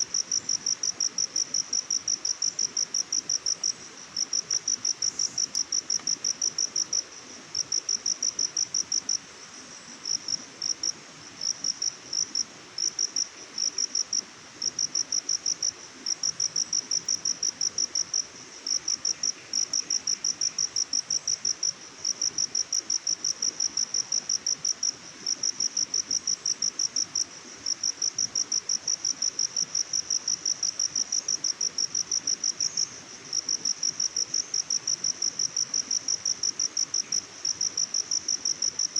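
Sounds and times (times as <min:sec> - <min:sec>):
cricket chirping: 0:00.0 - 0:38.9
faint background hiss: 0:00.0 - 0:38.9.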